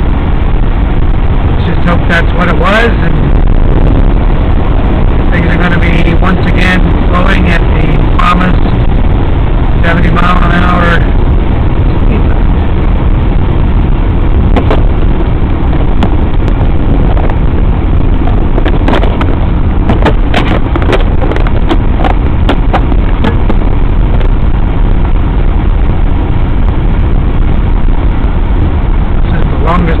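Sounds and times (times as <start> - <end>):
car cabin road noise: 0.0 - 30.0.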